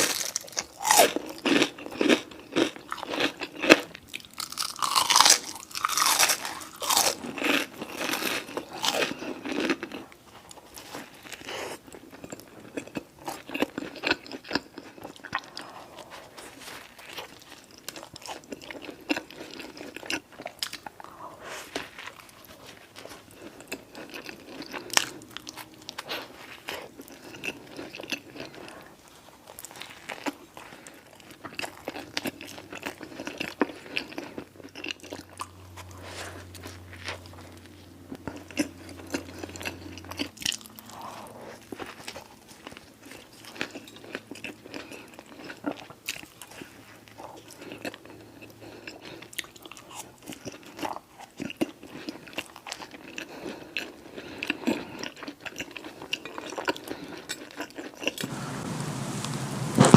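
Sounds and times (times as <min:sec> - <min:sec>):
person chewing food: 0:00.0 - 0:58.3.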